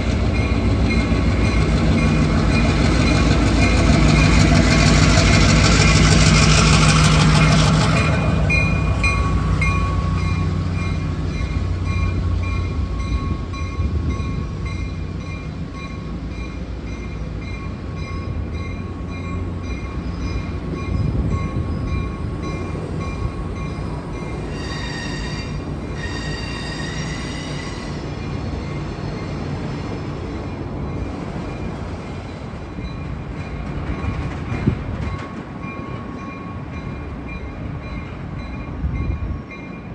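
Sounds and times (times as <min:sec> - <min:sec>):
locomotive engine: 0:00.0 - 0:34.5
train cars rolling by: 0:00.0 - 0:39.9.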